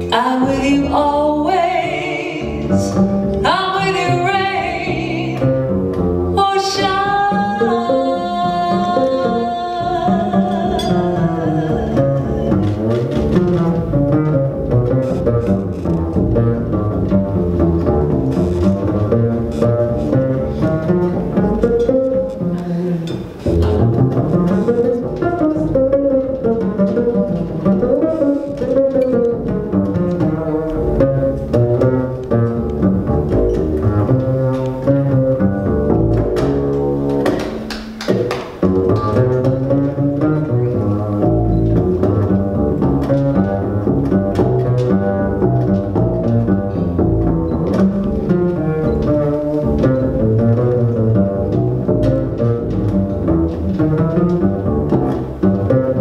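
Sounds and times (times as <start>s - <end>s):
plucked double bass: 0.0s - 56.0s.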